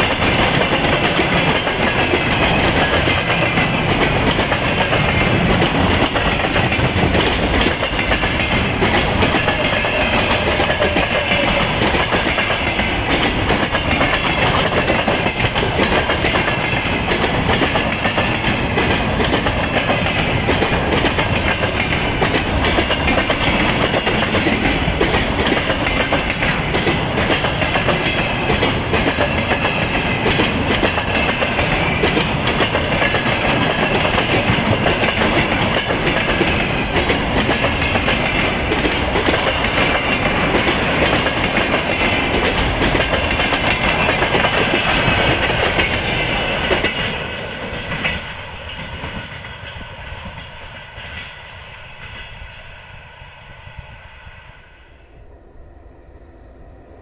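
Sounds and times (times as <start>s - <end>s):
freight train wheels clacking: 0.0s - 53.0s.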